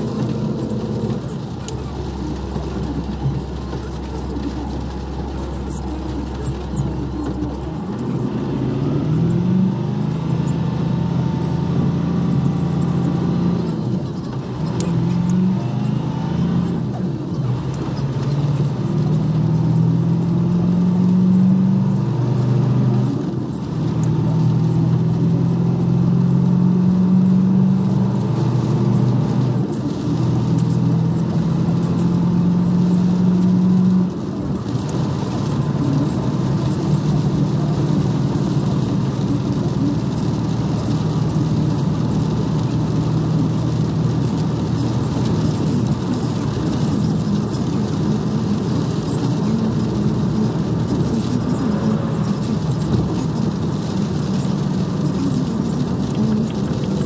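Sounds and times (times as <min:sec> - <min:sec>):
truck diesel engine shifting gears: 0:00.0 - 0:57.0.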